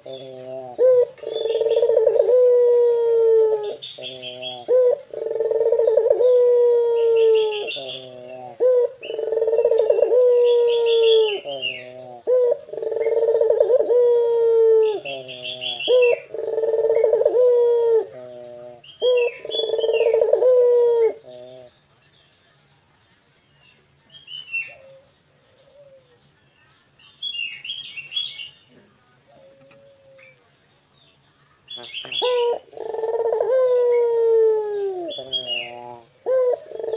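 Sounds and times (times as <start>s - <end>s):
dove cooing: 0.0s - 21.8s, 24.6s - 26.2s, 29.3s - 30.4s, 31.7s - 36.9s
small birds chirping: 0.0s - 36.9s.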